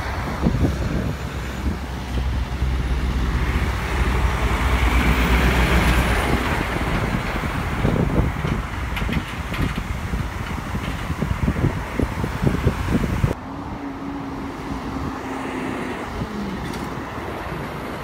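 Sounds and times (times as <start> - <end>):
lorry diesel engine rumble: 0.0 - 18.0.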